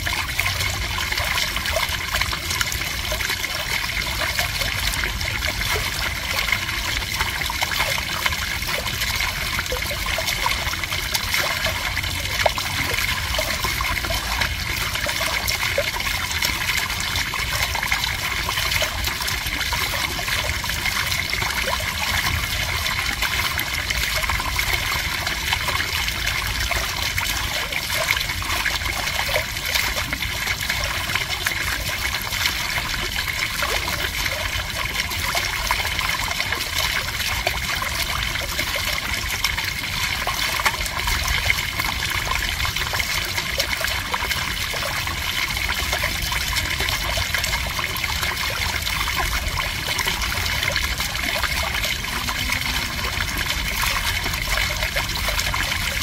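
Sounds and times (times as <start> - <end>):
stream babbling over pebbles: 0.0 - 56.0.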